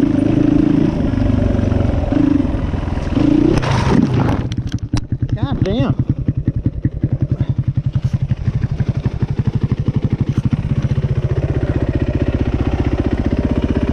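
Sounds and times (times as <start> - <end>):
dirt bike engine idling: 0.0 - 13.9.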